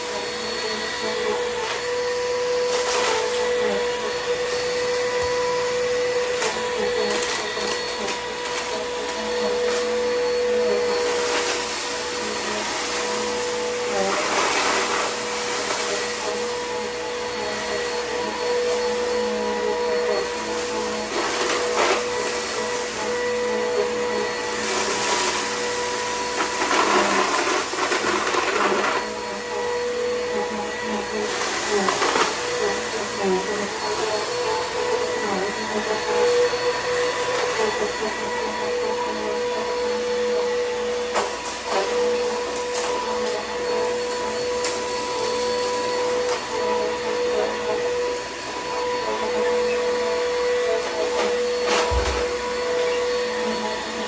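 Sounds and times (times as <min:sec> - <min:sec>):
crumbs rattling up vacuum: 0:00.0 - 0:54.0
vacuum cleaner motor whine: 0:00.0 - 0:54.0.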